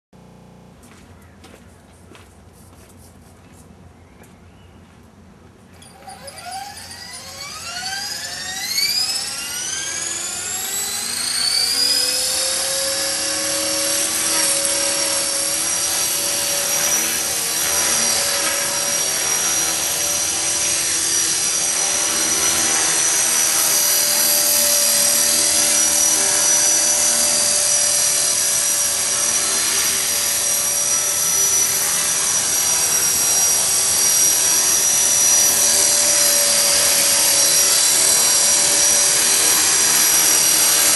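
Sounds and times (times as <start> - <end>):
helicopter rotor noise: 5.7 - 40.9
electric motor whine: 5.8 - 40.9.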